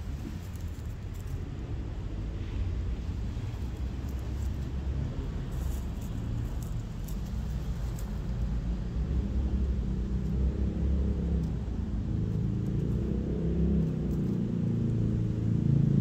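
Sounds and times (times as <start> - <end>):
engine rumbling: 0.0 - 16.0.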